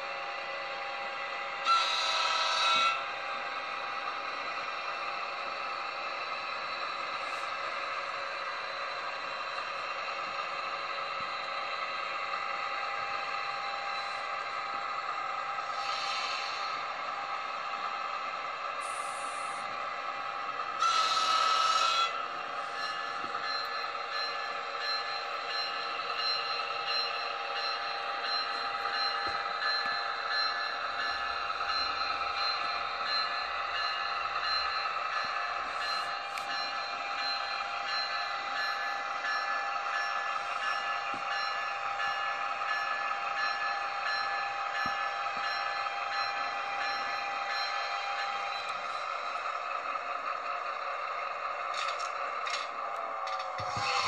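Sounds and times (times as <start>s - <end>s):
model locomotive whine: 0.0s - 54.0s.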